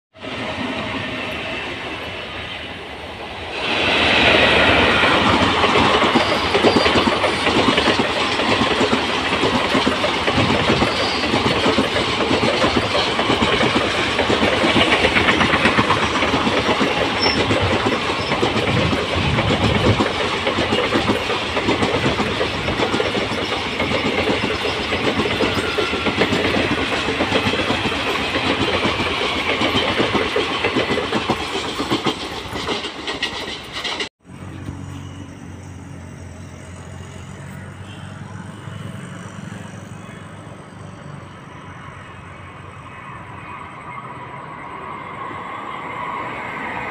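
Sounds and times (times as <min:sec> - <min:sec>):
train rumbling past: 0:00.2 - 0:46.9.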